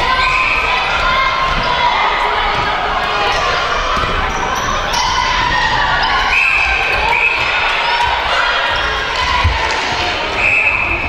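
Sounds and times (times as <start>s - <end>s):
voices echoing in a hall: 0.0s - 11.0s.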